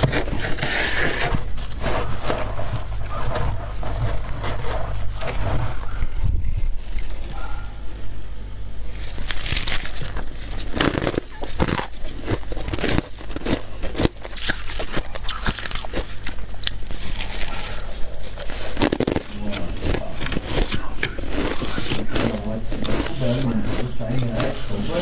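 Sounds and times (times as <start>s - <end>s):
chewing crunchy frost: 0.0s - 25.0s
low hum: 0.0s - 25.0s.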